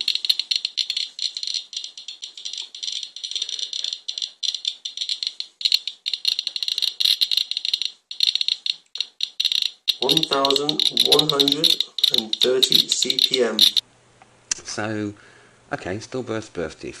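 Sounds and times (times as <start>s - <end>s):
geiger counter clicking fast: 0.0s - 13.8s.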